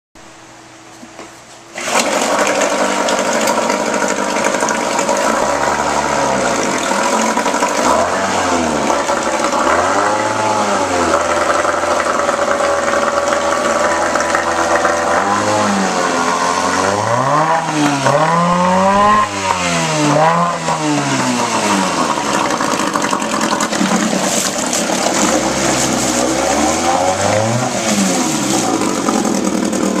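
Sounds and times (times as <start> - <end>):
outboard motor running: 1.8 - 30.0
propeller churning water: 1.8 - 30.0.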